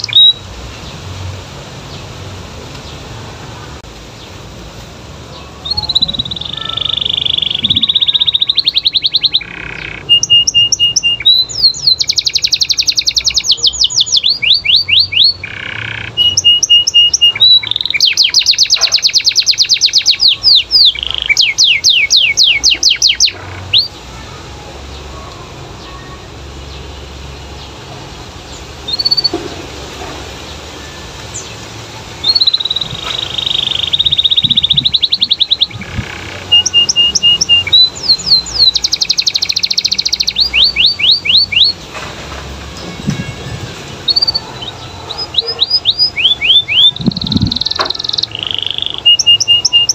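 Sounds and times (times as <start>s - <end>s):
canary singing trills: 0.0s - 1.0s, 5.2s - 41.9s, 42.7s - 49.9s.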